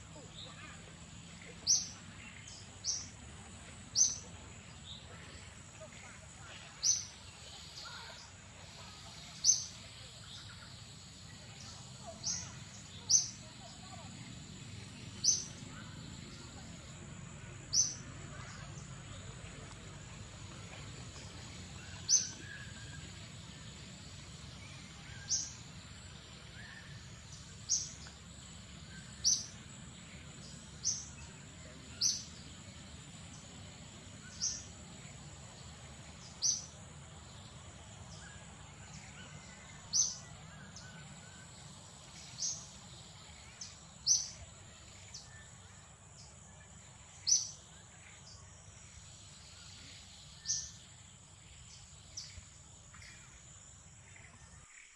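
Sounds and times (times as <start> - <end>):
bird chirping: 0.2 - 16.9, 21.1 - 54.9.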